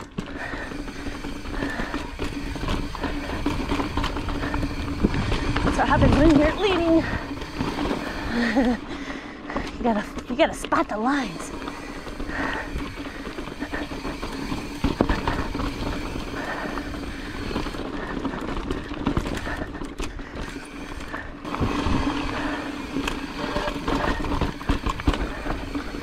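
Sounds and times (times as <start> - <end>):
steady buzz: 0.0 - 10.1, 10.9 - 26.0
bike knocking and rattling on rocks: 0.0 - 26.0.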